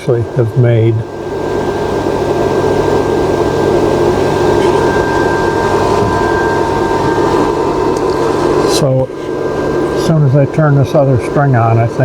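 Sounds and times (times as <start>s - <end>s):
cooling fan running: 0.0s - 12.0s
high-pitched electrical whine: 0.0s - 12.0s
low electrical hum: 0.0s - 12.0s.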